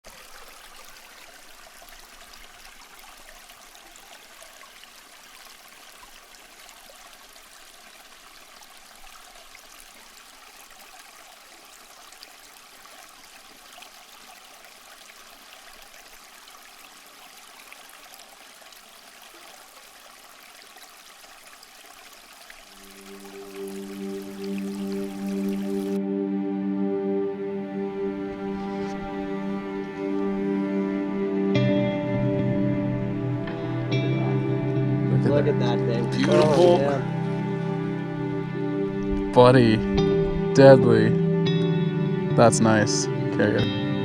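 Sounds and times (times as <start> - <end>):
river flowing: 0.0 - 44.0.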